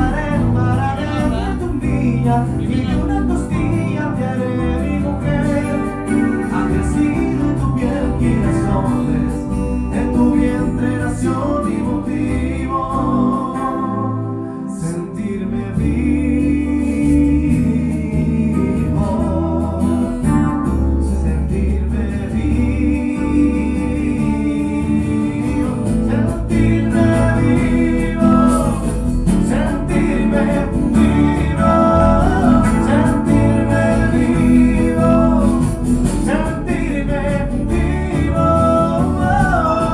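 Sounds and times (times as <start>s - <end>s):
band playing guitar and bass: 0.0s - 39.9s
person singing: 0.0s - 39.9s.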